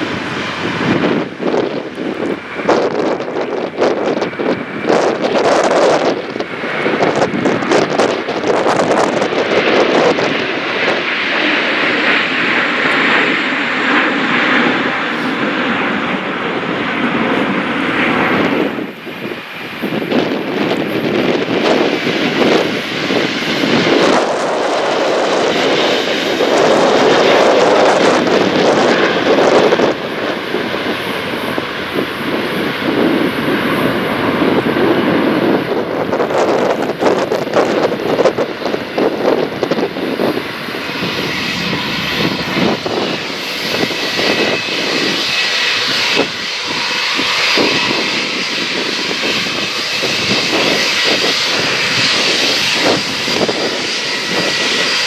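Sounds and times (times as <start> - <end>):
jet engine high whine: 0.0 - 55.0
jet engines running: 0.0 - 55.0.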